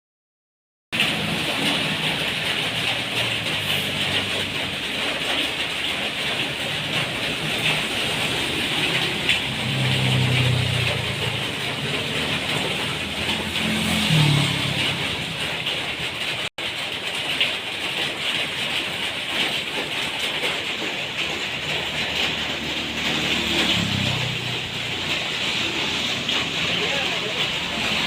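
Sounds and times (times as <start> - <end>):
aquarium water splashing: 1.0 - 28.0.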